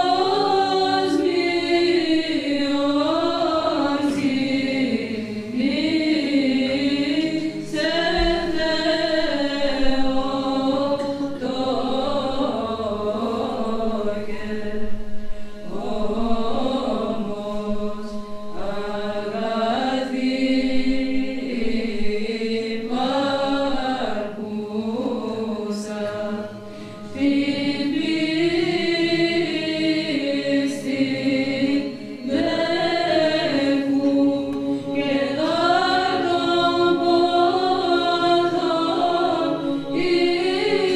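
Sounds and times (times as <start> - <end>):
women's choir chanting: 0.0 - 14.9, 15.6 - 40.9.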